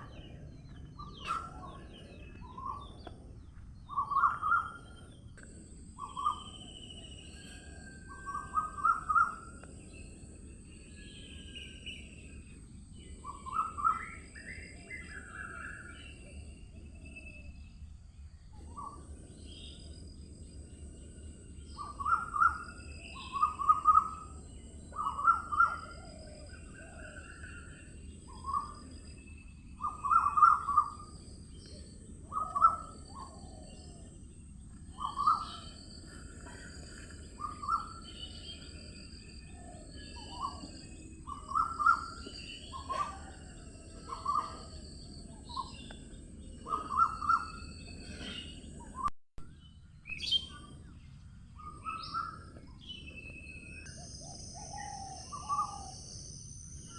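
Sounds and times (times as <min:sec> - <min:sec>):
birds chirping: 0:00.0 - 0:17.6, 0:18.6 - 0:49.1.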